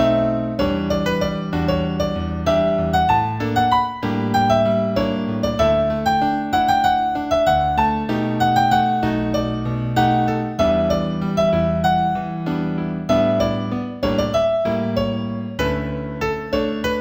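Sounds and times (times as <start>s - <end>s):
new-age piano music: 0.0s - 17.0s.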